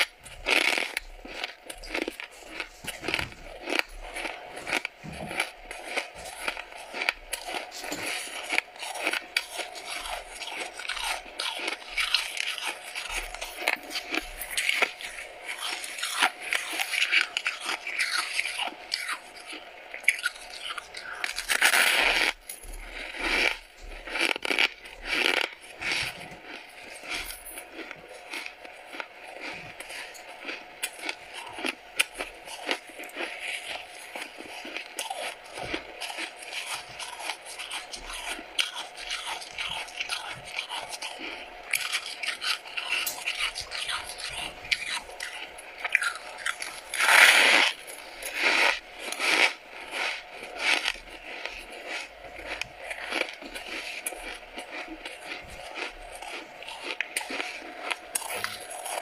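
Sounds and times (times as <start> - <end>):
ice crunching between teeth: 0.0 - 59.0.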